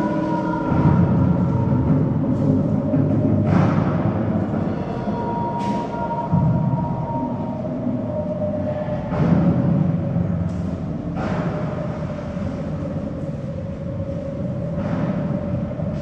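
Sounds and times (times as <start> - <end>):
held drone tone: 0.0 - 16.0.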